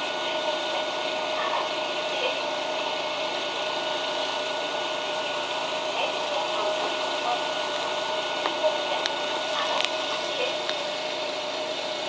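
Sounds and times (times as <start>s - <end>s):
high steady whine: 0.0s - 12.0s.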